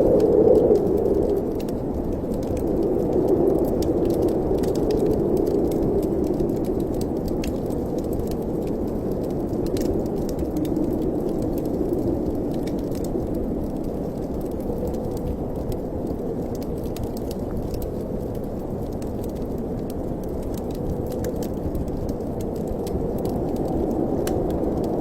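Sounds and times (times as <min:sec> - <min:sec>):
faint crackling clicks: 0:00.0 - 0:25.0
wind rushing in a chimney: 0:00.0 - 0:25.0.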